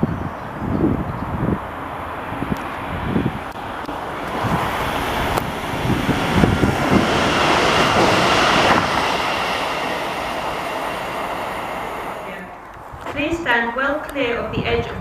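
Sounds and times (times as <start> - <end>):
train passing: 0.0 - 13.8.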